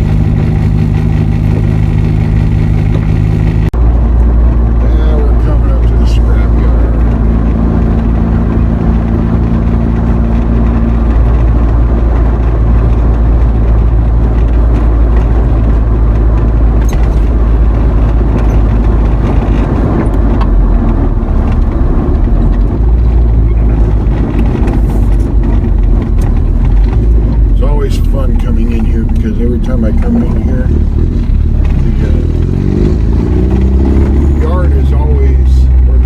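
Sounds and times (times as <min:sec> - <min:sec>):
road noise: 0:00.0 - 0:36.0
steady engine tones: 0:00.0 - 0:36.0
truck engine rumble: 0:00.0 - 0:36.0.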